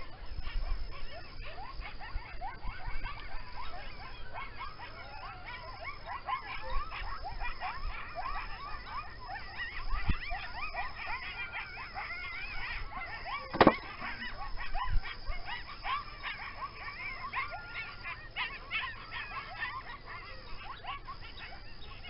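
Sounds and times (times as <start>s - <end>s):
coyotes yipping and howling: 0.0s - 22.0s.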